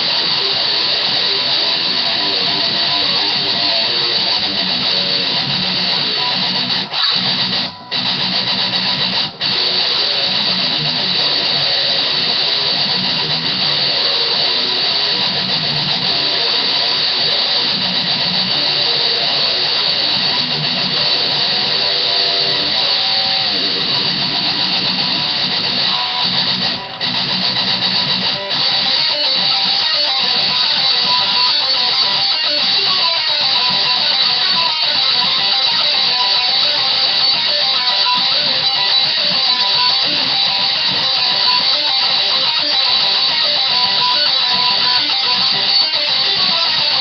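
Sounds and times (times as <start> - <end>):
electric guitar playing metal riffs: 0.0 - 47.0.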